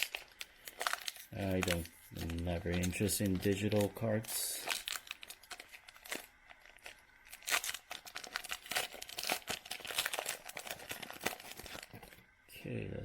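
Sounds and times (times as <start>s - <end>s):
wrapper tearing and crinkling: 0.0s - 12.2s.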